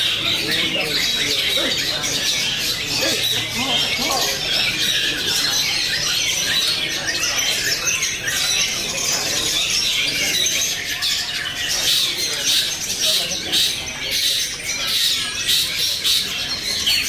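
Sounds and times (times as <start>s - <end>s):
shrike fast continuous chatter: 0.0s - 17.0s
songbirds chattering and squawking: 0.0s - 17.0s.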